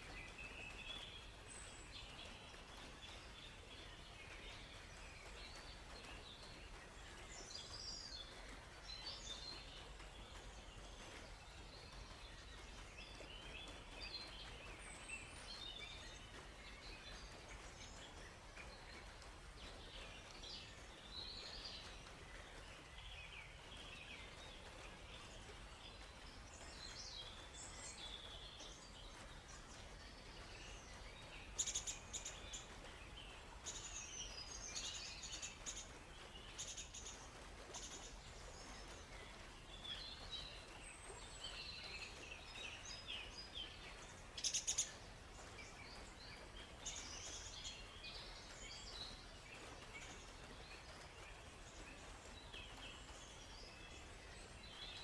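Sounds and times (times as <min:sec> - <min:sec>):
faint steady hiss: 0:00.0 - 0:55.0
songbirds chirping and trilling: 0:00.0 - 0:55.0.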